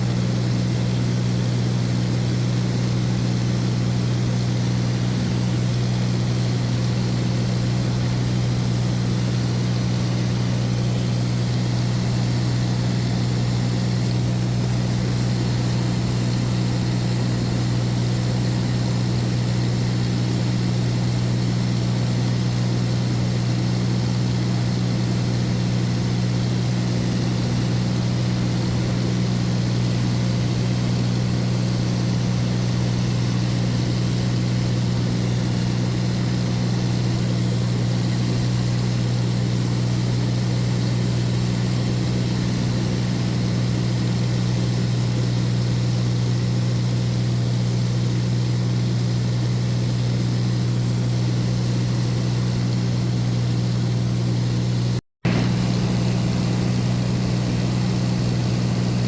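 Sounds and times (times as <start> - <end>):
propeller aircraft cabin drone: 0.0 - 59.0.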